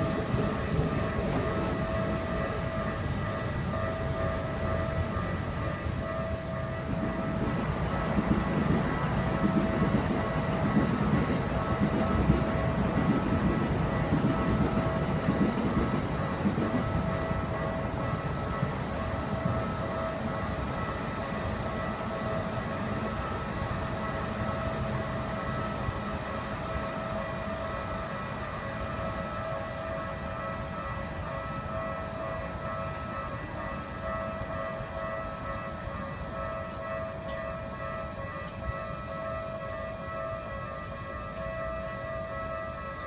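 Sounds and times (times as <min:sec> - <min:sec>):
level crossing alarm ringing: 0:00.0 - 0:43.0
passing train rumble: 0:00.0 - 0:43.0.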